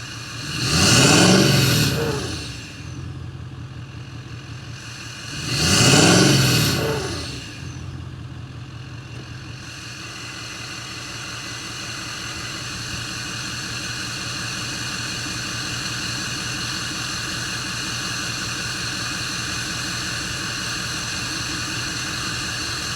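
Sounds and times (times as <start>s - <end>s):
diesel engine idling: 0.0s - 22.9s.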